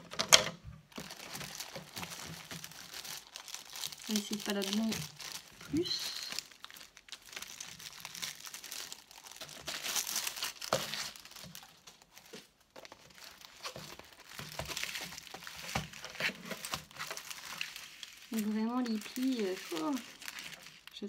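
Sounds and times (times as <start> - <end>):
paper and plastic crinkling: 0.0 - 21.0.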